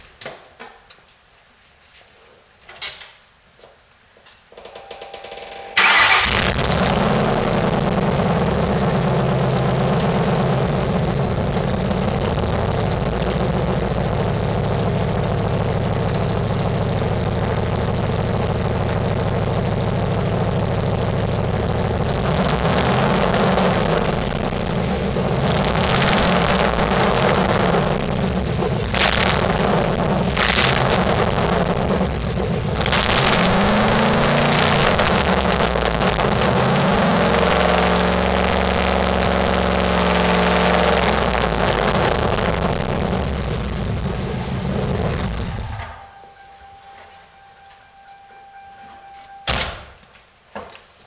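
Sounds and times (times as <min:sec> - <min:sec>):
car engine starting and idling: 0:05.3 - 0:46.2.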